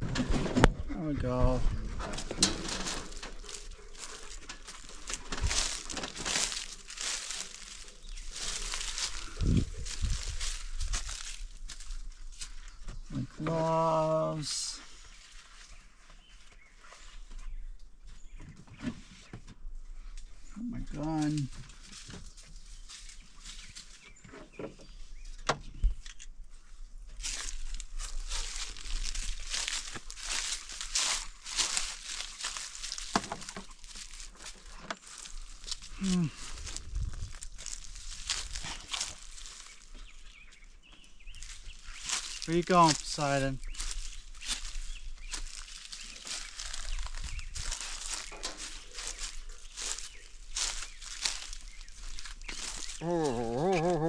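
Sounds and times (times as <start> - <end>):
crunching and crinkling rustles: 0.0 - 54.0.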